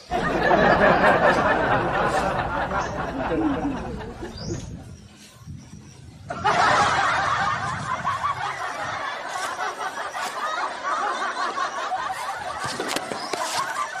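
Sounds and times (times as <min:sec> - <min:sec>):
crowd laughing: 0:00.0 - 0:05.0, 0:06.3 - 0:14.0.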